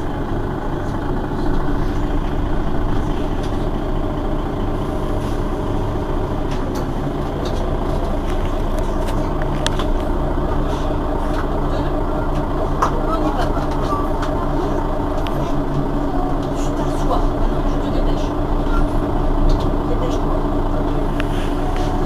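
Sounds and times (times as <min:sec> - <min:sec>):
bus engine idling: 0:00.0 - 0:22.0.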